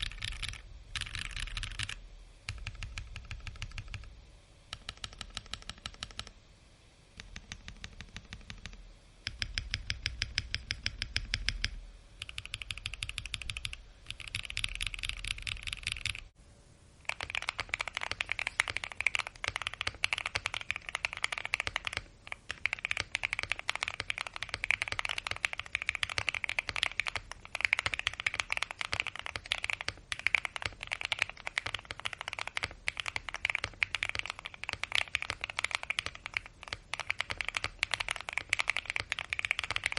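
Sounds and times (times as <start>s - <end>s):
fast typing on mechanical keyboard: 0.0s - 4.1s, 4.7s - 6.3s, 7.2s - 16.3s, 17.1s - 39.9s.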